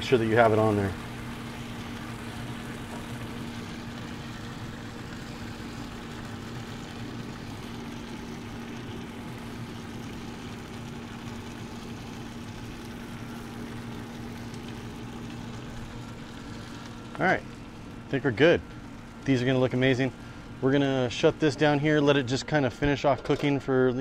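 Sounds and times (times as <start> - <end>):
smoker fan humming: 0.0 - 24.0.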